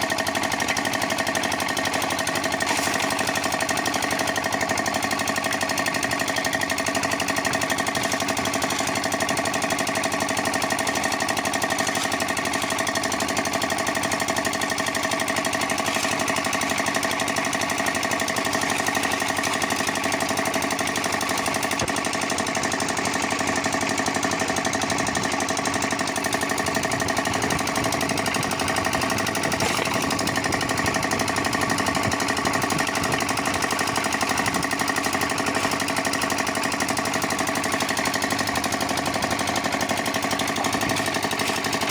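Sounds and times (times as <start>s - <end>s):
concrete mixer running: 0.0s - 41.9s.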